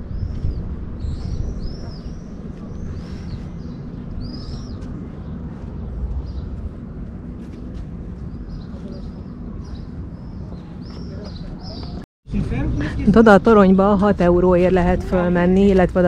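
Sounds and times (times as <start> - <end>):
birds chirping: 0.0 - 16.0
wind buffeting microphone: 0.0 - 16.0.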